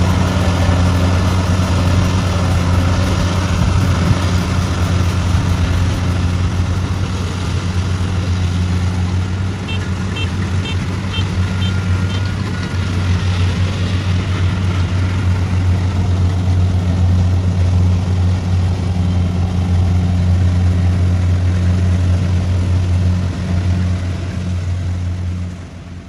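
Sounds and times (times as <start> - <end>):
combine harvester engine hum: 0.0 - 26.0.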